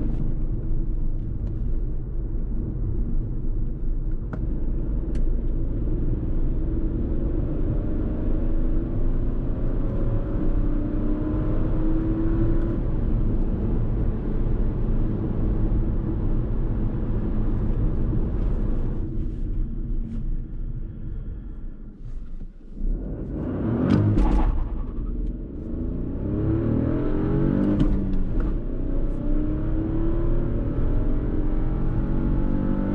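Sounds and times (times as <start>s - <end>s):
road rumble: 0.0s - 32.9s
car engine accelerating: 4.4s - 32.9s.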